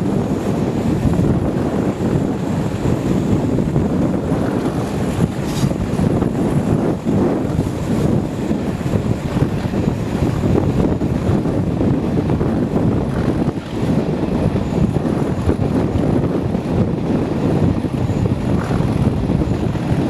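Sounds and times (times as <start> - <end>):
diesel locomotive engine running: 0.0 - 20.0
wind buffeting microphone: 0.0 - 20.0.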